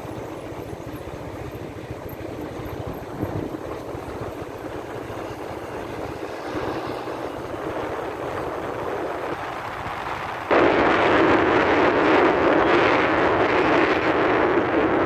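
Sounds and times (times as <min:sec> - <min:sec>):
rushing wind: 0:00.0 - 0:15.0
scooter road noise: 0:00.0 - 0:15.0.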